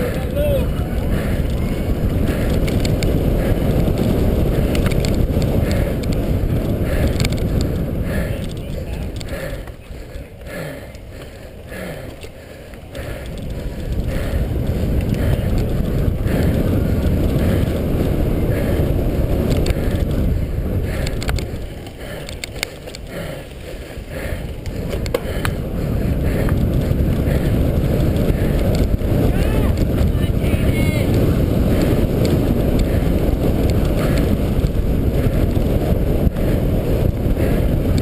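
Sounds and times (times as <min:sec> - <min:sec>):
bike rattles and clicks: 0:00.0 - 0:38.0
bike tyre rumble: 0:00.0 - 0:38.0
wind buffeting microphone: 0:00.0 - 0:38.0.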